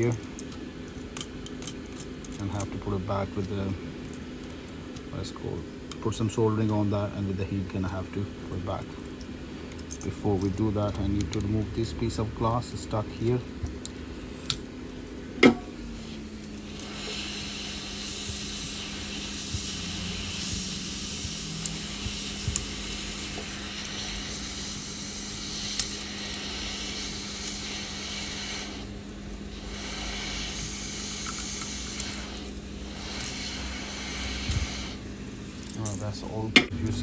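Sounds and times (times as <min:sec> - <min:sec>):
heat gun running: 0:00.0 - 0:37.0.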